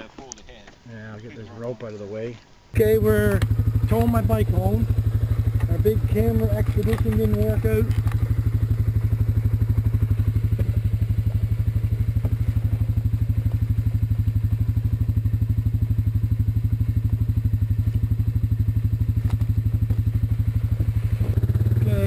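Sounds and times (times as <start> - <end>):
atv engine idling: 2.8 - 22.0.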